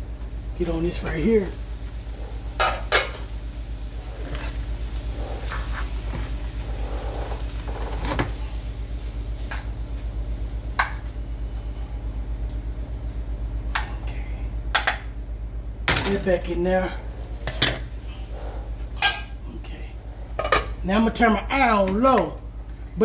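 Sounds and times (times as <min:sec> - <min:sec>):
low hum: 0:00.0 - 0:21.5.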